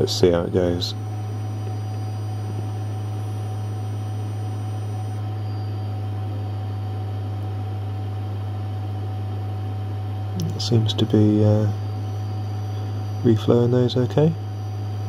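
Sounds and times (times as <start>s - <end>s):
hot air station hum: 0.0s - 15.0s.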